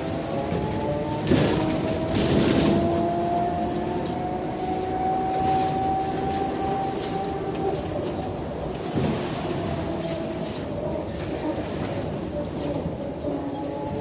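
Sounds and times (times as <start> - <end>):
bus drivetrain whine: 0.0 - 14.0
road rumble: 0.0 - 14.0.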